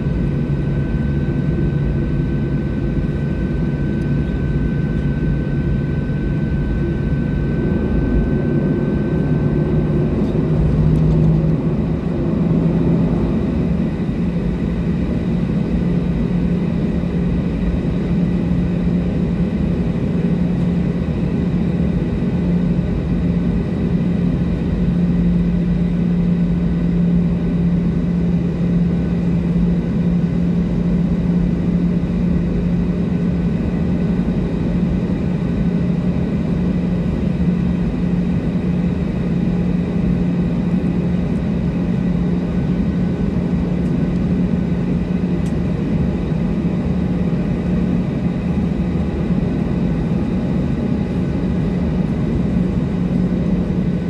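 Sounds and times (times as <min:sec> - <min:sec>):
aircraft cabin drone: 0:00.0 - 0:54.0.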